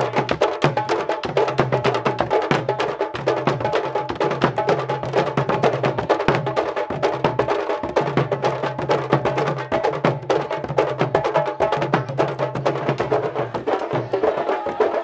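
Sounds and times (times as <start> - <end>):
hand-and-stick drumming: 0.0 - 15.0.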